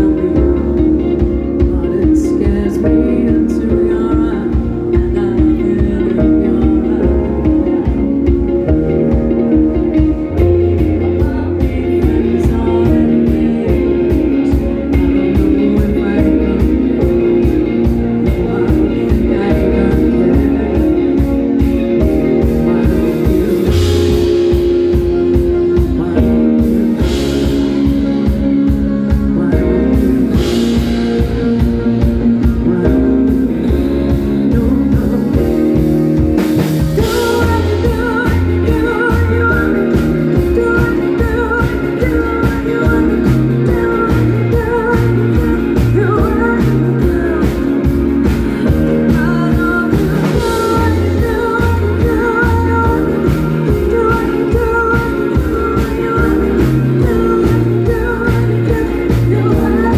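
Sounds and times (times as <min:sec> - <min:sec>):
live pop-rock band: 0:00.0 - 0:59.9
woman singing lead: 0:00.0 - 0:59.9.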